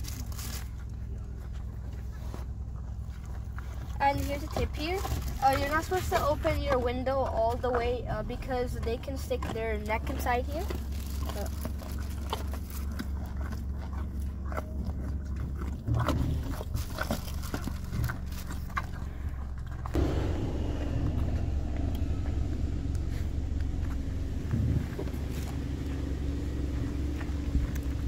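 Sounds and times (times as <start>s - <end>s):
car engine idling: 0.0s - 28.0s
elk crunching carrots: 0.0s - 28.0s.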